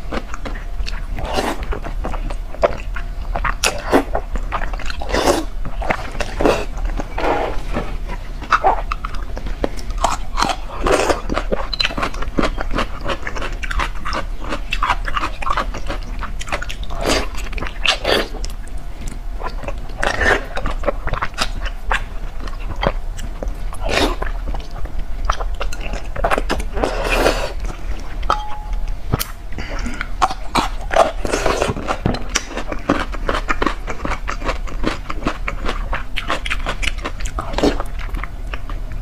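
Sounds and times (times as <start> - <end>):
wet chewing and biting: 0.0 - 39.0.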